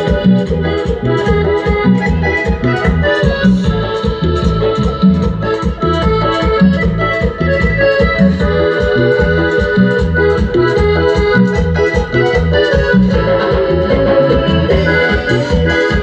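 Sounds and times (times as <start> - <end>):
live dance band playing: 0.0 - 16.0
organ-like keyboard melody: 0.0 - 16.0
steady bass beat: 0.0 - 16.0.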